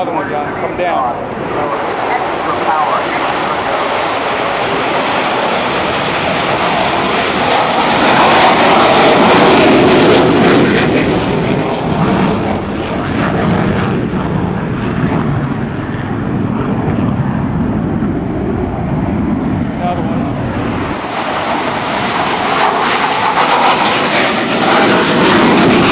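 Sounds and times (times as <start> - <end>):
airplane flying past: 0.0 - 25.9.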